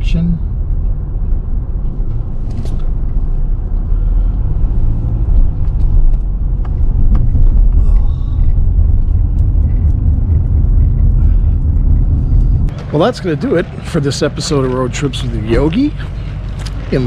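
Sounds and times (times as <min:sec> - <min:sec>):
car interior rumble: 0:00.0 - 0:17.0.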